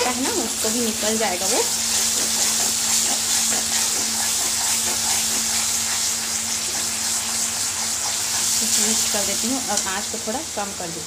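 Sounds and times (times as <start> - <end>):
spatula scraping pan: 0.0 - 9.6
paste sizzling in hot oil: 0.0 - 11.0.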